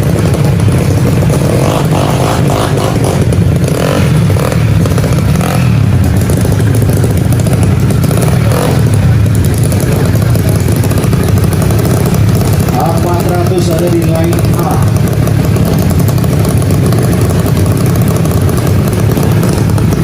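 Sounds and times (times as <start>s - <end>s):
scooter engines running loudly: 0.0s - 20.0s.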